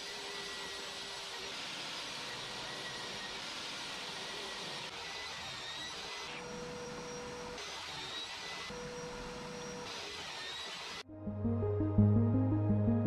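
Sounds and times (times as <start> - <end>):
table saw cutting: 0.0 - 11.0.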